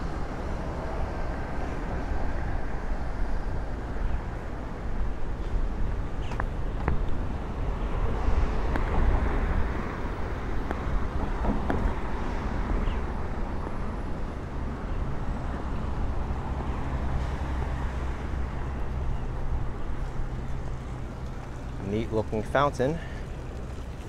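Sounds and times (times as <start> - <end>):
passing road traffic: 0.0 - 24.0.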